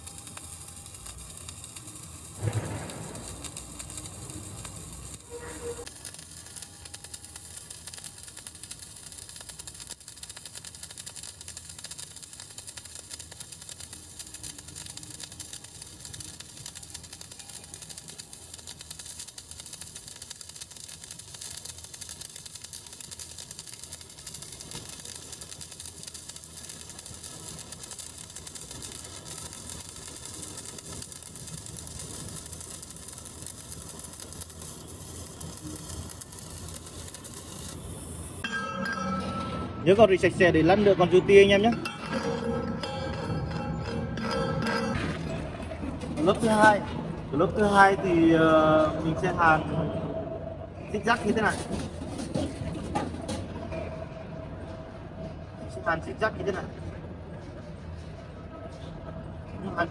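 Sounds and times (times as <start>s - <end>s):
welding arc crackling: 0.0s - 49.6s.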